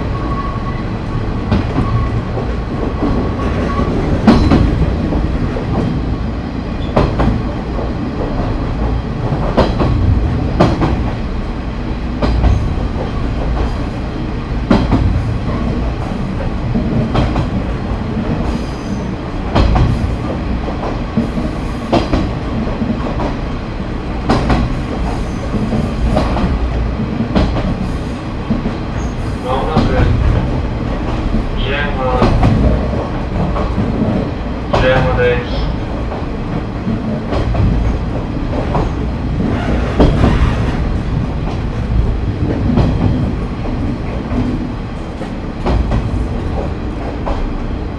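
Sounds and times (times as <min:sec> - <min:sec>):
railcar engine and wheels rumbling: 0:00.0 - 0:47.9.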